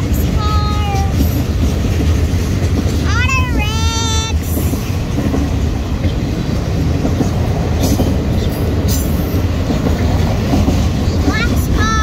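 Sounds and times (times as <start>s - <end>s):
steel train wheels rumbling on rails: 0.0s - 12.0s.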